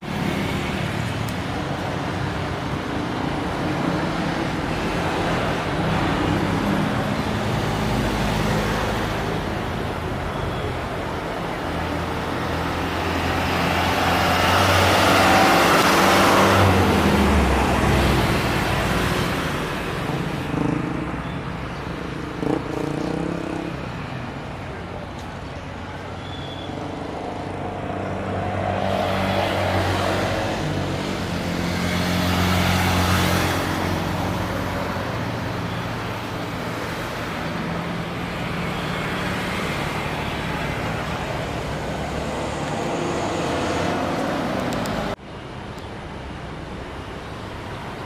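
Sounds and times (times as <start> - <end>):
road traffic: 0.0 - 48.0.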